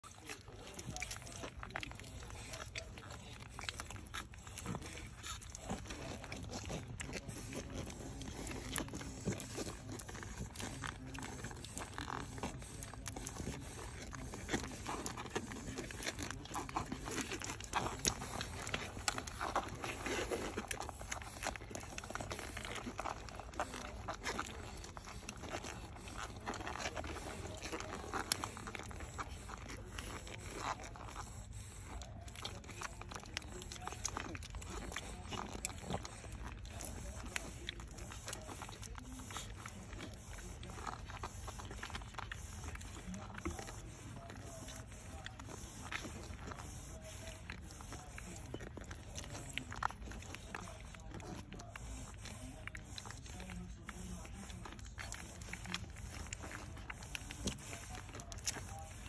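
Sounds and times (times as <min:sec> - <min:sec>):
puppies suckling wet clicks: 0:00.0 - 0:59.0.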